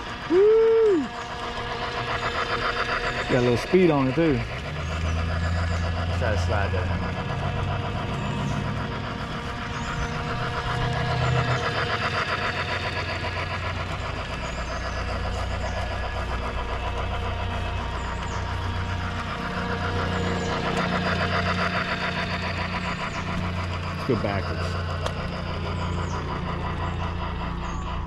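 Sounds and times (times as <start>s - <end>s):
model train motor whirring: 0.0s - 28.0s
steady low hum: 0.0s - 28.0s
wheels clattering over rails: 0.0s - 28.0s.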